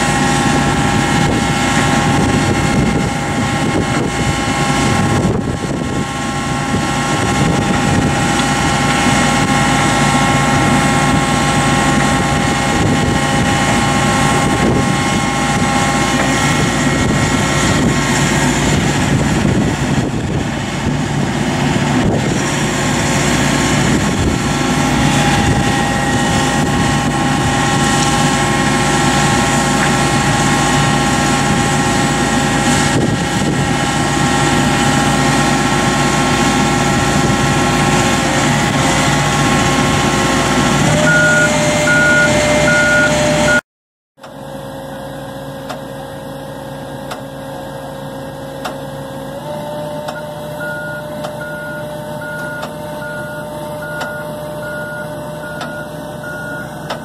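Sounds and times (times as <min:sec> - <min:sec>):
diesel engine running: 0:00.0 - 0:43.6, 0:44.2 - 0:57.0
hydraulic whine: 0:00.0 - 0:43.6, 0:44.2 - 0:57.0.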